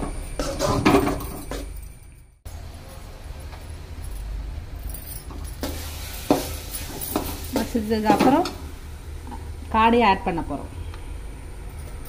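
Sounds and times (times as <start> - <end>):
low hum with hiss: 1.3 - 12.0.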